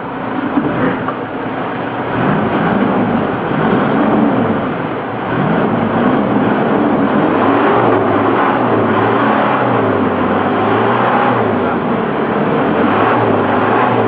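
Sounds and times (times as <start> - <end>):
engine revving: 1.8 - 14.0.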